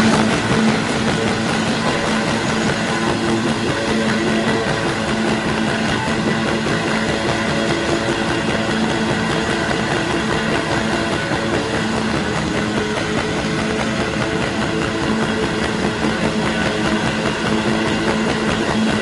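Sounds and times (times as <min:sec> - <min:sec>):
rock band playing electric guitars: 0:00.0 - 0:19.0.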